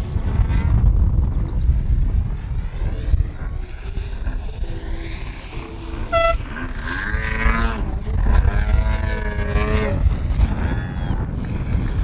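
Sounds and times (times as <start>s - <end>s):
model plane petrol engine: 0.0s - 12.0s
wind rumble on microphone: 0.0s - 12.0s.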